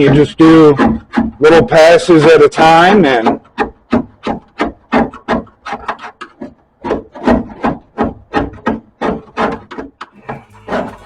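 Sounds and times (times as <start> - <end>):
paint scraper chipping metal: 0.0 - 11.0.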